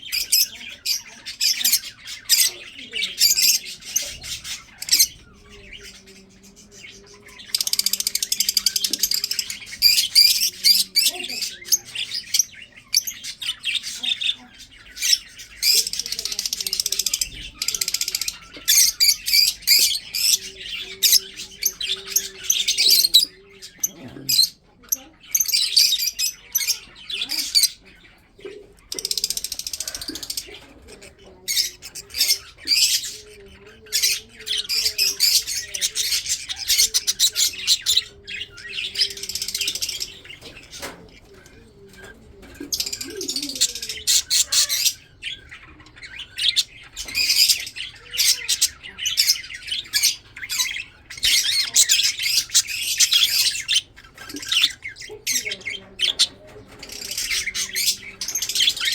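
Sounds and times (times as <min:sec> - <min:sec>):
budgerigars chirping and chattering: 0:00.0 - 0:58.9.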